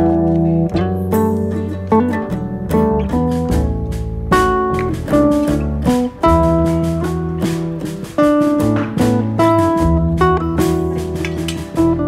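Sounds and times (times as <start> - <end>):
guitar playing plucked notes: 0.0 - 12.0.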